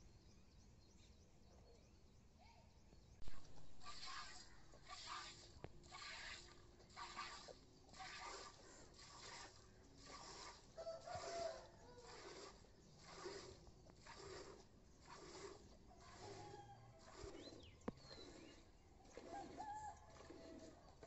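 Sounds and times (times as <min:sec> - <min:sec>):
milk squirting into steel pot: 0:03.5 - 0:21.0.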